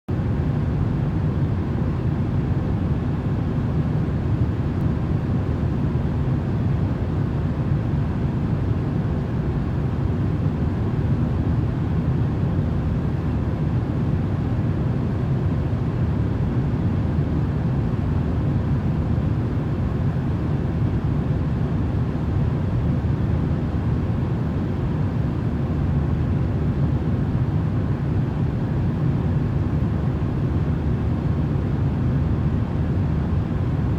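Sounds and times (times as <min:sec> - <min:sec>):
faint hum: 0:00.1 - 0:33.9.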